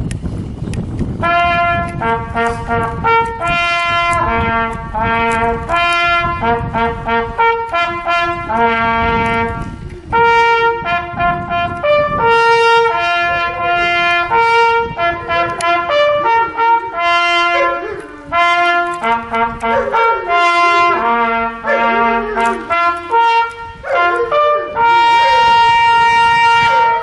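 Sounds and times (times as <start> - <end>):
hunting horn fanfare: 1.2 - 27.0.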